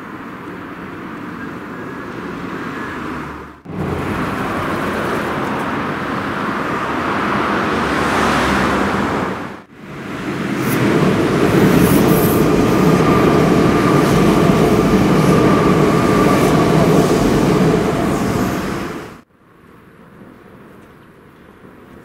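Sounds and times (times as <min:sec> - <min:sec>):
train rumbling over iron bridge: 0:00.0 - 0:19.3.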